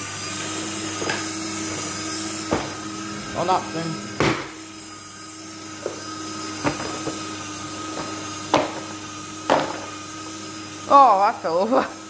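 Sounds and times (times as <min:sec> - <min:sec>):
paper shredder humming: 0:00.0 - 0:12.0.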